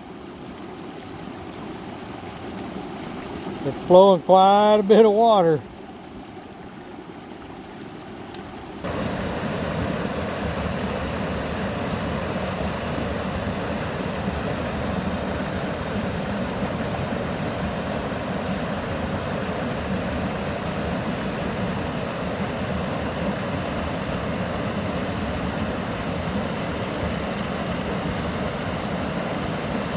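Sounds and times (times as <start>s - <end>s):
water rushing and splashing: 0.0s - 29.9s.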